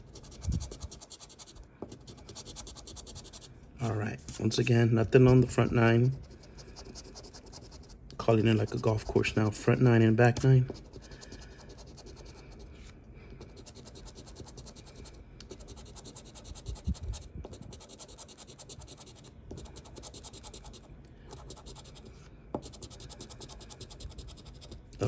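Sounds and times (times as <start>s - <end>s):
scratching a lottery ticket: 0.0s - 3.5s, 4.2s - 9.6s, 10.4s - 25.0s.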